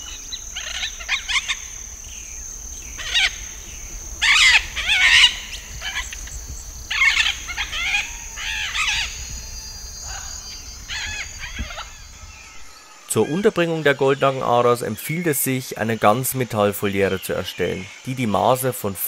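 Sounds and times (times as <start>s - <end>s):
macaws croaking calls: 0.0s - 18.1s.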